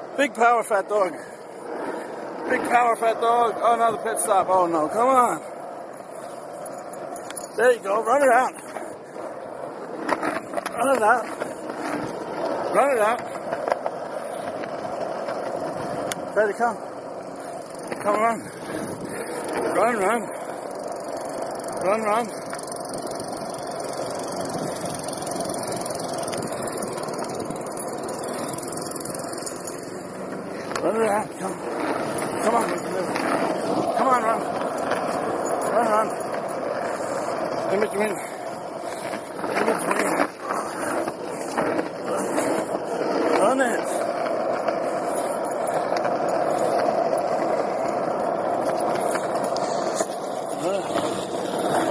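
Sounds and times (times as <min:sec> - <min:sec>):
skateboard wheels rolling on concrete: 0:00.0 - 0:51.9.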